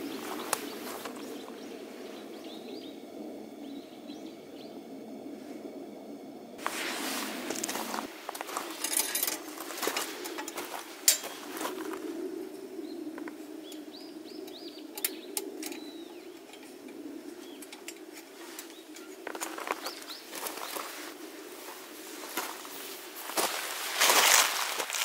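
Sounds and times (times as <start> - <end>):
small birds chirping: 0.0 - 5.0, 6.6 - 25.0
steady low hum: 0.0 - 25.0.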